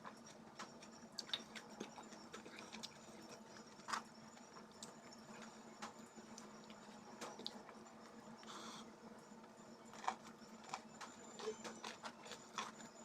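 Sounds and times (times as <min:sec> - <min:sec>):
person chewing food: 0:00.0 - 0:05.5, 0:06.3 - 0:13.0.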